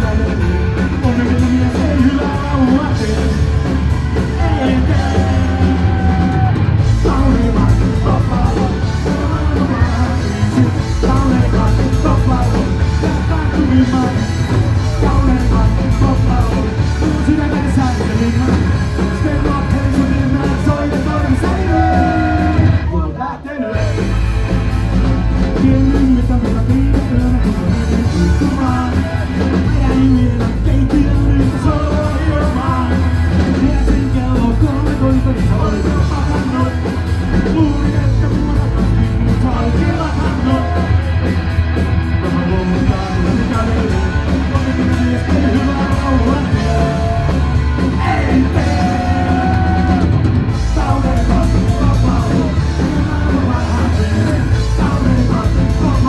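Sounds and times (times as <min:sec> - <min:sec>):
male singer: 0:00.0 - 0:24.3, 0:25.4 - 0:56.0
live rock band: 0:00.0 - 0:56.0.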